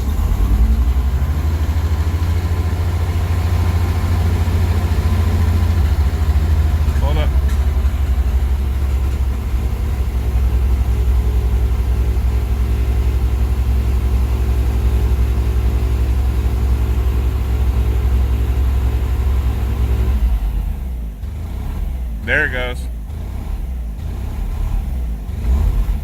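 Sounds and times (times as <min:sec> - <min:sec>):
rotary engine rough idling: 0:00.0 - 0:26.0.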